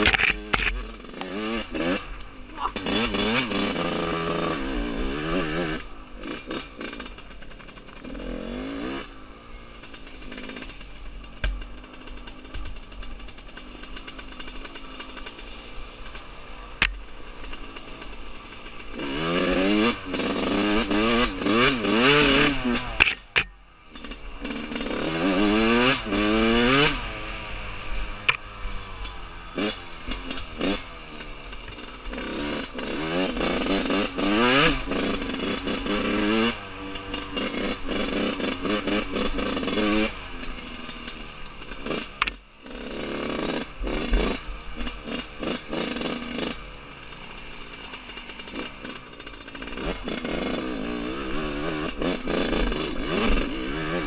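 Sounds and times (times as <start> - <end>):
two-stroke motorbike engine revving: 0.0 - 54.0.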